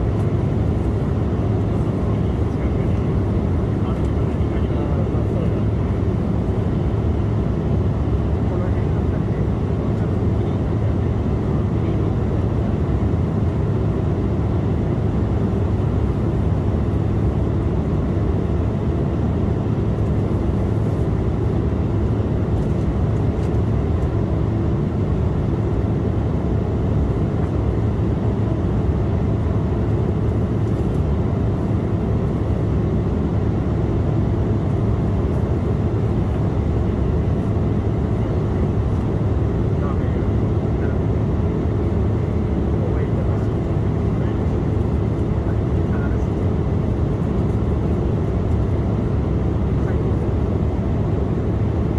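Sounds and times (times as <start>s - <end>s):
airflow over fuselage: 0.0s - 51.9s
jet engines rumbling in cabin: 0.0s - 51.9s.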